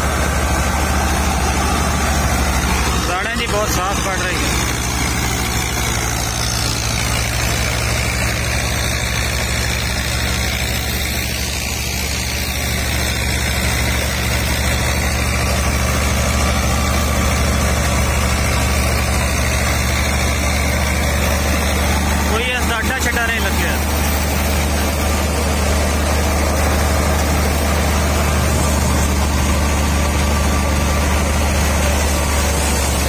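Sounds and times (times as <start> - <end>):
thresher drum whirring: 0.0 - 33.0
tractor engine running: 0.0 - 33.0.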